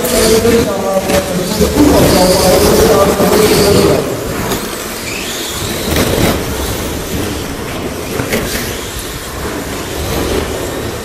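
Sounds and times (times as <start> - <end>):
rc truck motors whining: 1.4 - 11.0.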